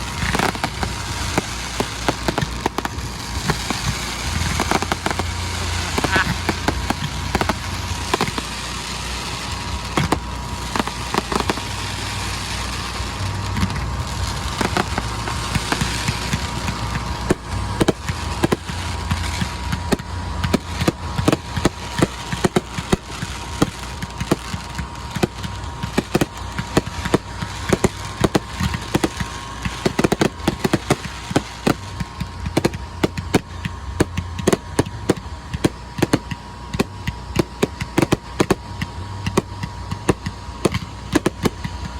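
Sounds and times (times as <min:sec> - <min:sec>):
fireworks bangs and pops: 0:00.0 - 0:41.9
fireworks hissing and crackling: 0:00.0 - 0:41.9.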